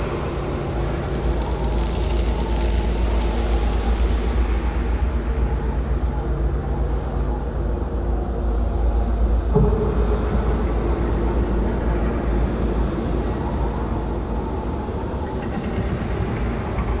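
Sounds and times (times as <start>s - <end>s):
faint drone tones: 0.0s - 17.0s.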